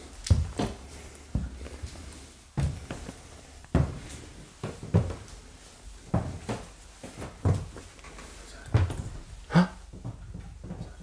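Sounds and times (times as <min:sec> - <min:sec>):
footsteps on wooden stairs: 0:00.3 - 0:11.0.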